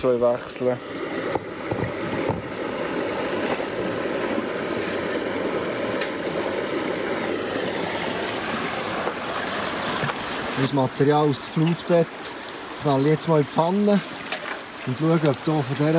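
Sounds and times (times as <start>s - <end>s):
creek water rushing: 0.0s - 15.9s.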